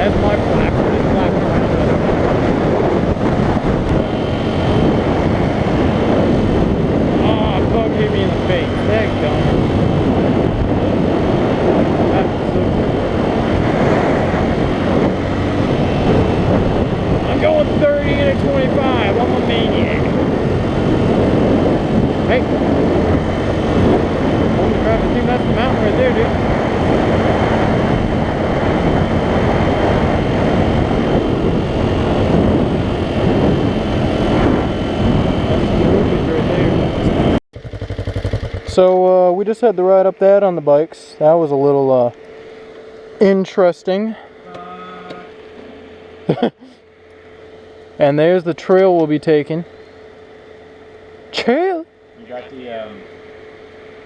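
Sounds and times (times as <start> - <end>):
wind rushing over microphone: 0.0 - 44.5
motorcycle engine running: 0.0 - 54.0.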